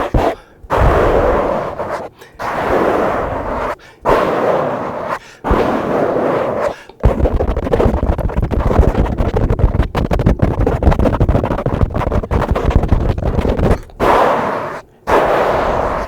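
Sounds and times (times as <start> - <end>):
microphone being brushed: 0.0 - 14.1.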